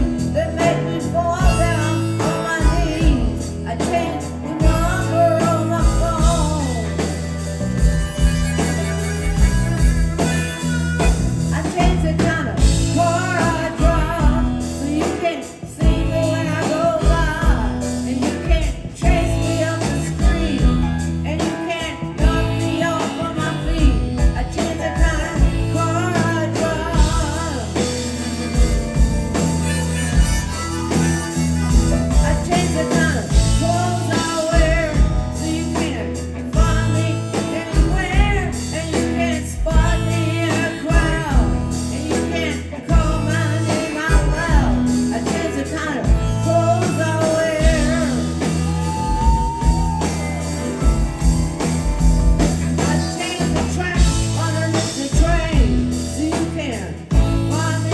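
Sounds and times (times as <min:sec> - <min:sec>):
live blues-rock band playing: 0:00.0 - 0:57.9
person singing: 0:00.0 - 0:57.9.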